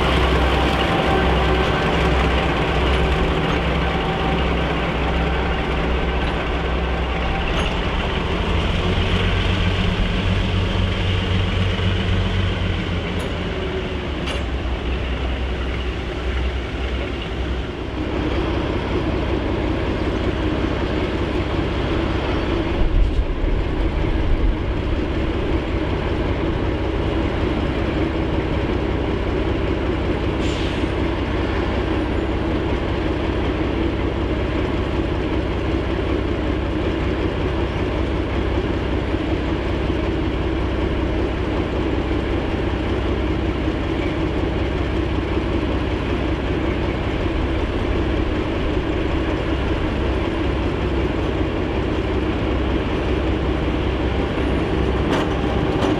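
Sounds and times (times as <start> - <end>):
diesel locomotive engine drone: 0.0 - 55.9.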